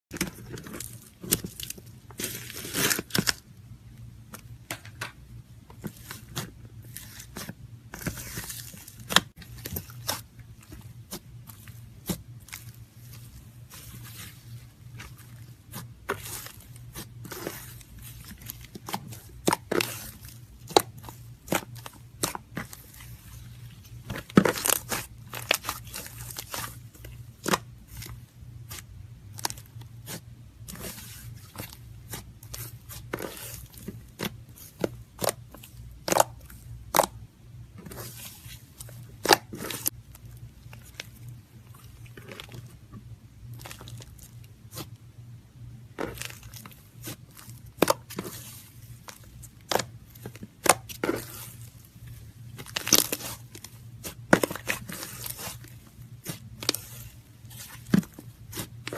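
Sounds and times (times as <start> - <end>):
low steady hum: 0.1 - 58.9.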